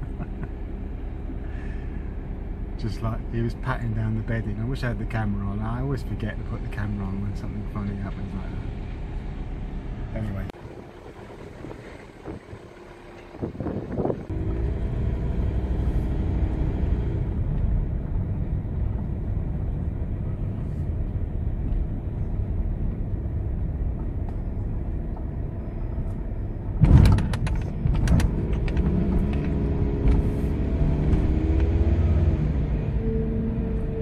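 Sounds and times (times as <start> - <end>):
van engine and tyre rumble: 0.0 - 34.0.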